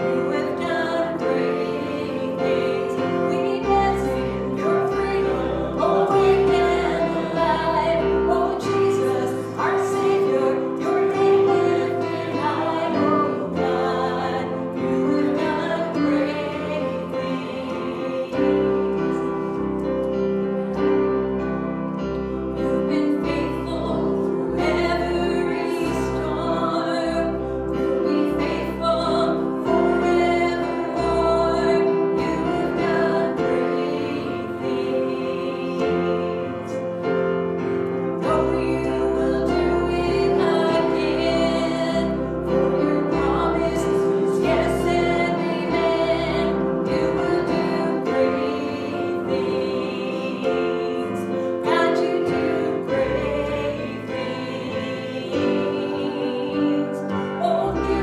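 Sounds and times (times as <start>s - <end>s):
voices singing worship music: 0.0s - 58.0s.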